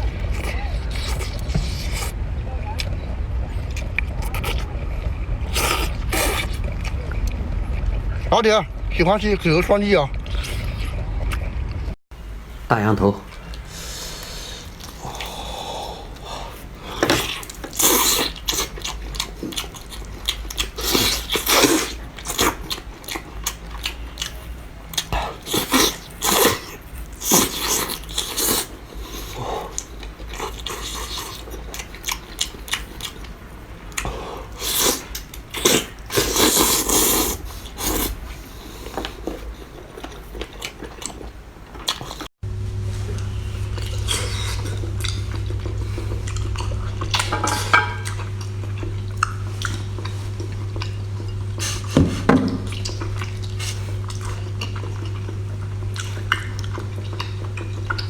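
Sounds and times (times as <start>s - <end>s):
wet chewing and smacking: 0.0s - 2.2s, 3.6s - 4.8s, 13.3s - 42.4s, 43.0s - 58.0s.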